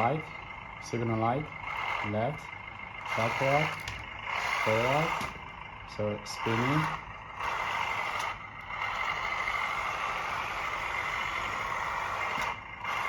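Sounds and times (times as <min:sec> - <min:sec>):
toy loader motors and gearboxes: 0:00.0 - 0:13.0.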